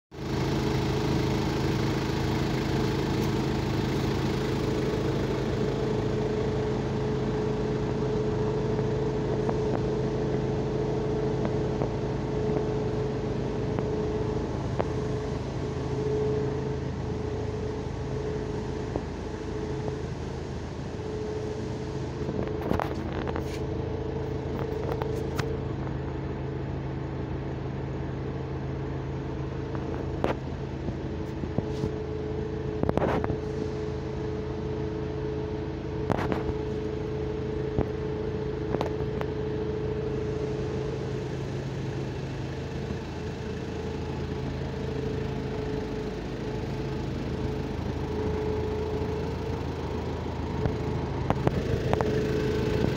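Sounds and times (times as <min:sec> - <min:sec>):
factory machinery drone: 0:00.3 - 0:52.9.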